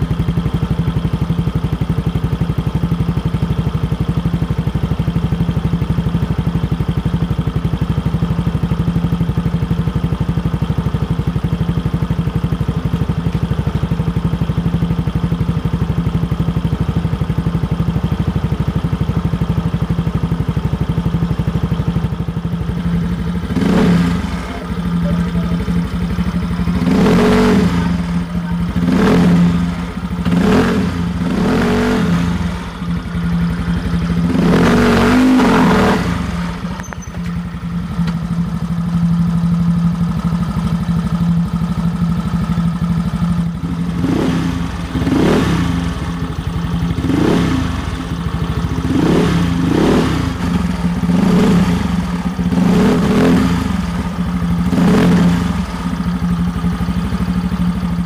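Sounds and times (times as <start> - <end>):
scooter engine idling and revving: 0.0 - 58.0.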